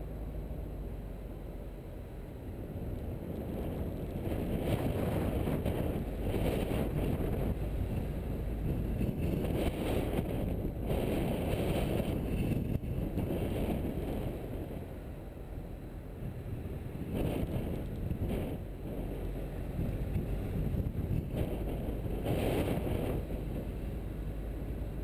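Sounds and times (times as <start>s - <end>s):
tyre noise on road: 0.0s - 25.0s
wind on microphone: 2.8s - 15.0s, 16.2s - 25.0s.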